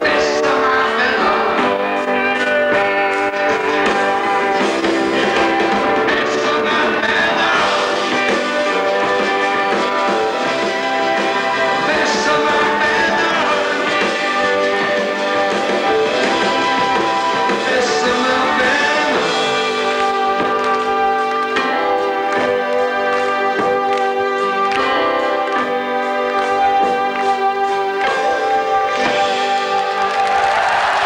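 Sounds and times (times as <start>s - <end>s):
electric guitars: 0.0s - 31.0s
rock band playing: 0.0s - 31.0s.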